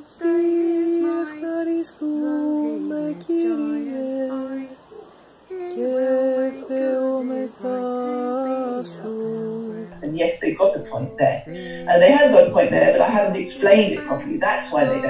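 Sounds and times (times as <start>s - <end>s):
women singing a hymn: 0.0s - 4.8s, 5.5s - 15.0s.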